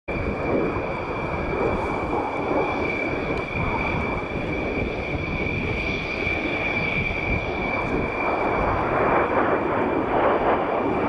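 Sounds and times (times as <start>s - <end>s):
jets flying past: 0.1s - 11.0s.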